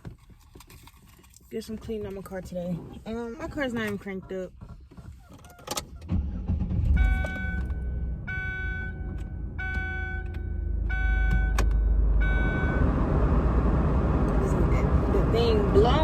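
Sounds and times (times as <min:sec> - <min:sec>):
car engine starting and idling: 0:03.0 - 0:16.0.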